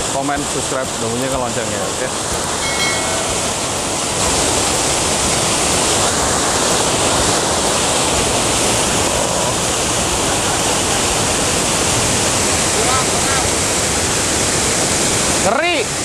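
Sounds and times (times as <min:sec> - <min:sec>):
waterfall crashing: 0:00.0 - 0:16.0.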